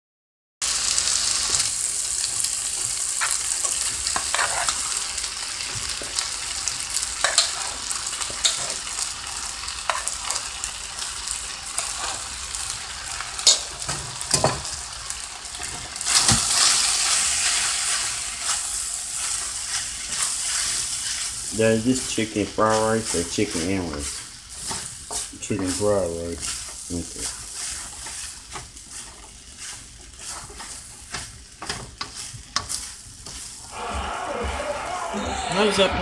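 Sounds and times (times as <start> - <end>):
chicken sizzling in oil: 0.6 - 34.8
wooden spoon scraping wok: 1.3 - 14.8, 15.6 - 34.7.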